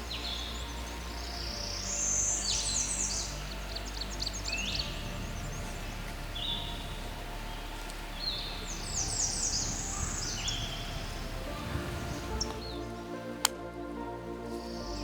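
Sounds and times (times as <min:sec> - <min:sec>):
descending whistled bird note: 0:00.0 - 0:13.2.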